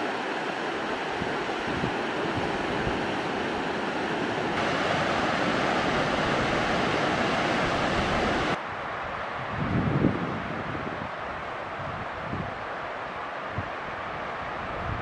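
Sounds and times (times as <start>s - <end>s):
river rushing over rocks: 0.0s - 9.4s, 10.5s - 15.0s.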